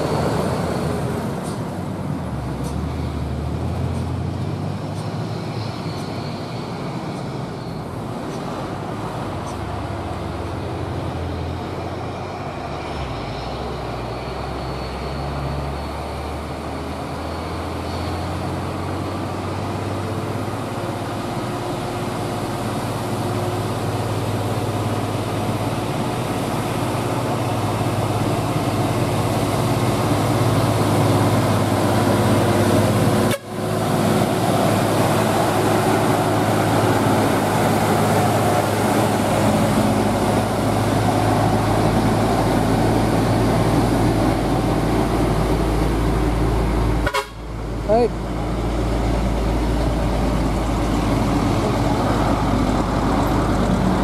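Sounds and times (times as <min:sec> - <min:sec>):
heavy truck diesel engines droning: 0:00.0 - 0:54.0.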